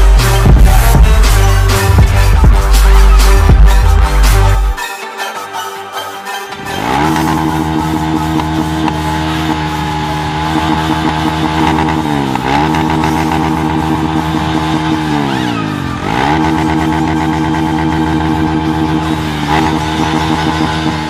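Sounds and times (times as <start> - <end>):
motorcycle engine revving: 0.0 - 4.8, 6.6 - 21.0.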